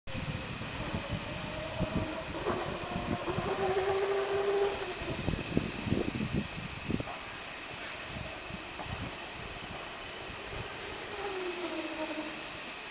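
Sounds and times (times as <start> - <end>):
box rolling on roller conveyor: 0.1 - 12.9.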